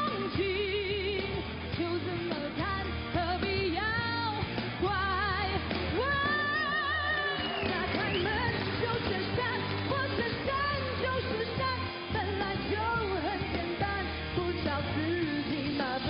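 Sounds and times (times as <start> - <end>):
live band playing: 0.0 - 16.0
women singing pop-rock song: 0.0 - 16.0.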